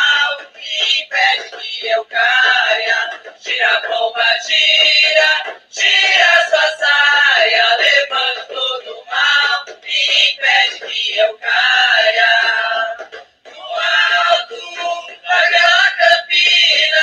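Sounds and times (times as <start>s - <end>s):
person singing with music: 0.0s - 17.0s.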